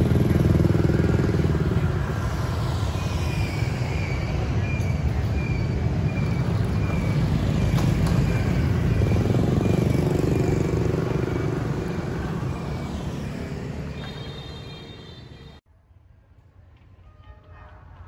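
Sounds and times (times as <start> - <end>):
motorbikes: 0.0 - 15.6
street traffic rumble: 0.0 - 18.0.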